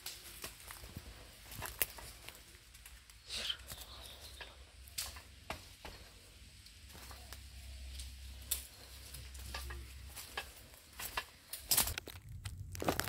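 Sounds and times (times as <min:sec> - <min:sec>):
twigs and leaves crackling: 0:00.0 - 0:13.0.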